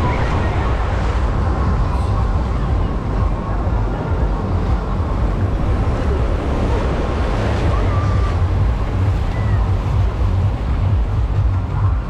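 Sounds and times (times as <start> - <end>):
surf washing onto beach: 0.0 - 11.4
wind rumbling on microphone: 0.0 - 12.0.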